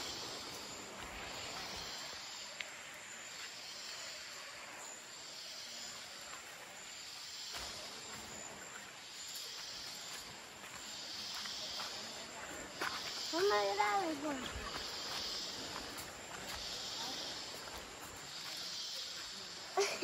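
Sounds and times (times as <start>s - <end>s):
forest insects droning: 0.0s - 20.0s.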